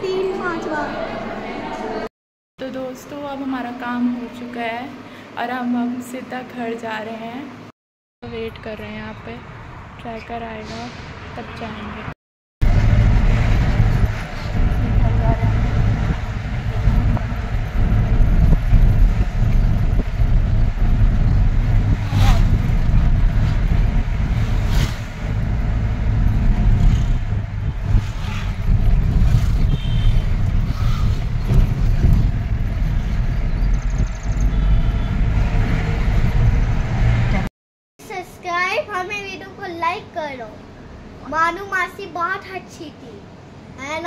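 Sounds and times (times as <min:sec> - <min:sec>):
engine and road rumble: 0:07.5 - 0:37.5, 0:38.6 - 0:44.0.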